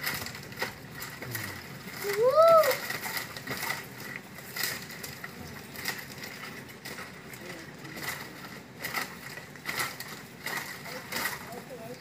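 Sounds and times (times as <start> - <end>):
soft crackles and rustles: 0.0 - 12.0.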